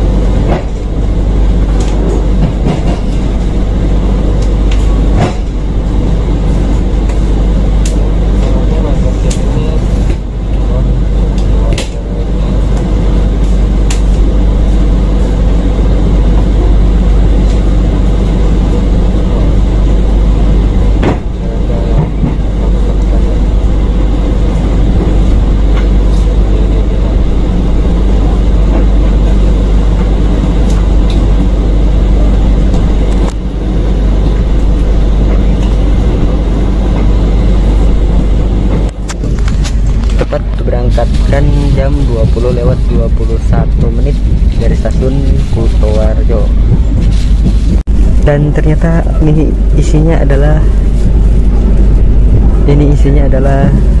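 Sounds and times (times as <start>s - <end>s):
train carriage rumble: 0.0s - 54.0s.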